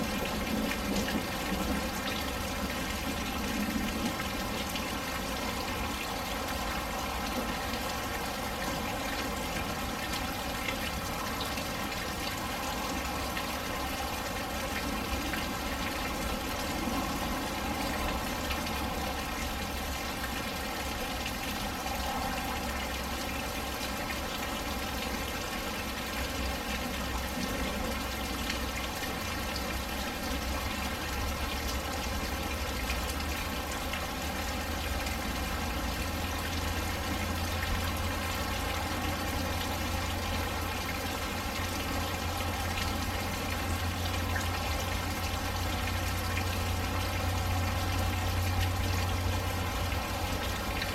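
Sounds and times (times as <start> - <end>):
big raindrops splashing: 0.0 - 50.9
steady rain falling: 0.0 - 50.9.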